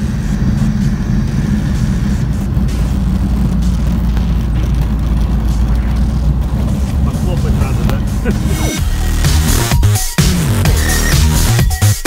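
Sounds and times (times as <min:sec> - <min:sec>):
propeller engine drone: 0:00.0 - 0:11.8.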